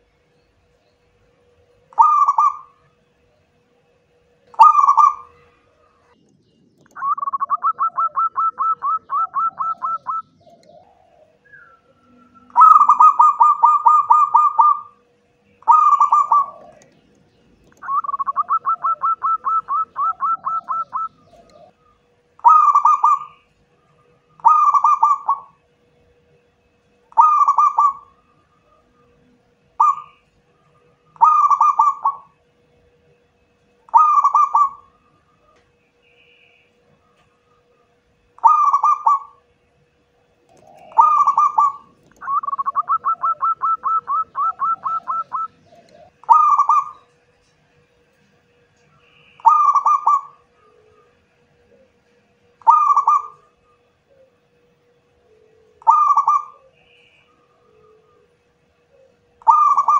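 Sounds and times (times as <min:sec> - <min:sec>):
dove cooing: 0:01.4 - 0:06.2, 0:06.8 - 0:26.0, 0:26.9 - 0:32.8, 0:33.7 - 0:39.5, 0:40.2 - 0:47.5, 0:48.6 - 0:59.9.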